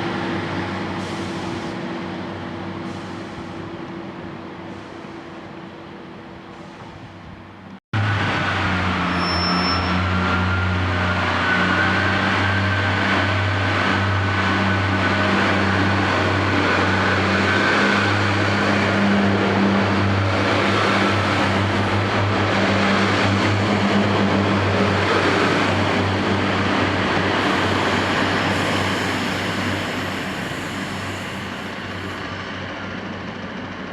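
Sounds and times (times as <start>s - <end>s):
train rumbling: 0.0s - 33.9s.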